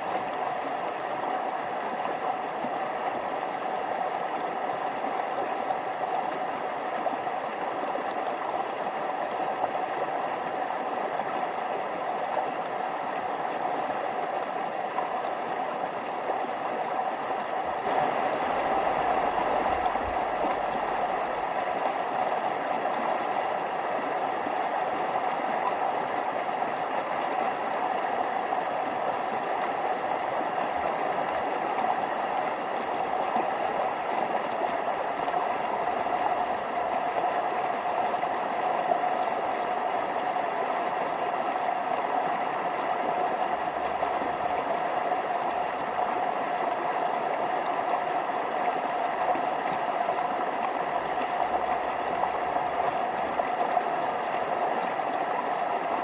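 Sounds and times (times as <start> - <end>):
stream flowing over small waterfalls: 0.0 - 56.0.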